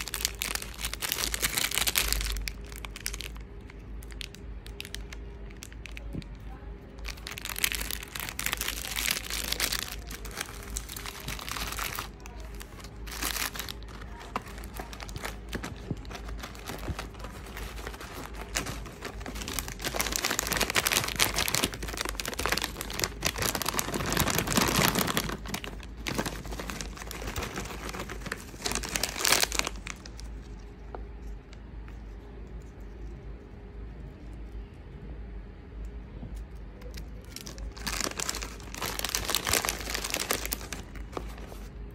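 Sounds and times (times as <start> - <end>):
plastic wrappers crinkling: 0.0 - 31.5, 36.8 - 41.9.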